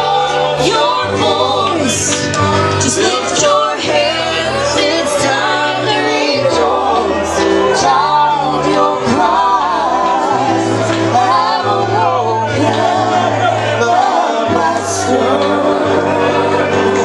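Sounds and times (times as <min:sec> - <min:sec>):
bass and instrumental accompaniment: 0:00.0 - 0:17.0
person singing gospel melody: 0:00.0 - 0:17.0.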